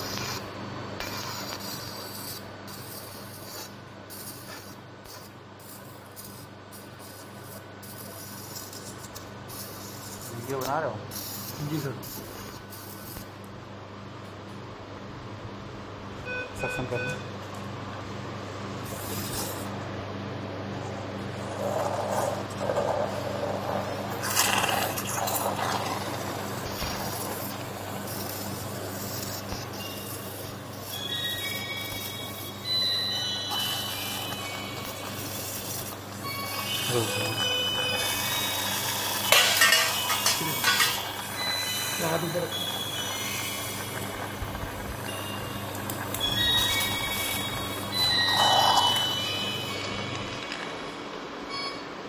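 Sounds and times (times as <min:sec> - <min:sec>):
steady hiss: 0:00.0 - 0:13.4, 0:22.3 - 0:51.3
low equipment hum: 0:00.0 - 0:52.0.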